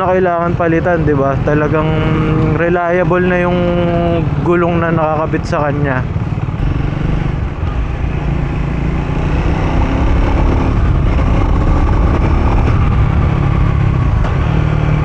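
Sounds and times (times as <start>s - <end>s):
motorcycle engine accelerating: 1.0s - 15.0s.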